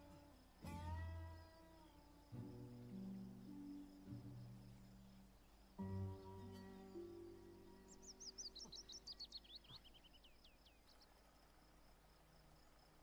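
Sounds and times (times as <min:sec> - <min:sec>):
crickets pulsing: 0:00.0 - 0:13.0
songbird singing: 0:00.0 - 0:13.0.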